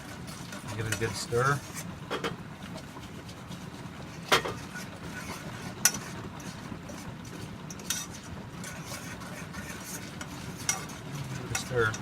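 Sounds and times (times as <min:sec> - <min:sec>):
fork stirring popcorn: 0:00.0 - 0:01.9, 0:03.0 - 0:12.0.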